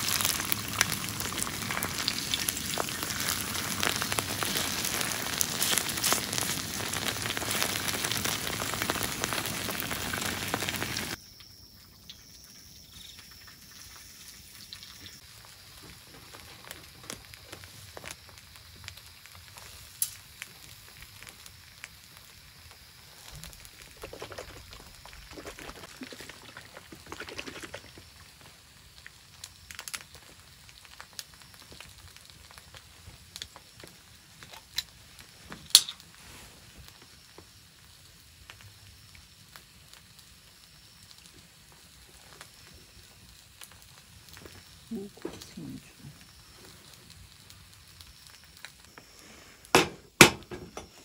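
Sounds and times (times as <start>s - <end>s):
rain hissing: 0.0s - 11.2s, 12.6s - 51.0s.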